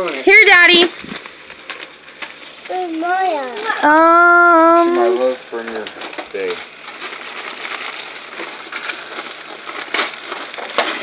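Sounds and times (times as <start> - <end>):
wrapping paper crinkling: 0.0 - 11.0.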